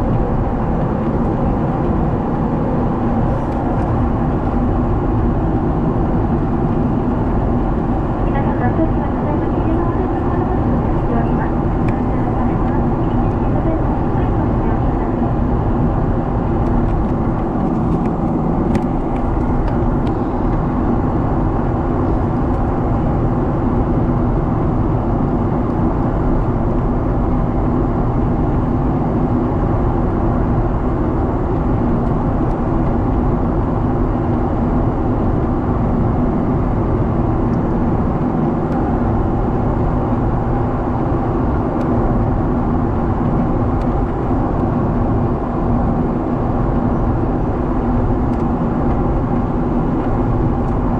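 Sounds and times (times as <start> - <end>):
airliner cabin engine roar: 0.0 - 50.9.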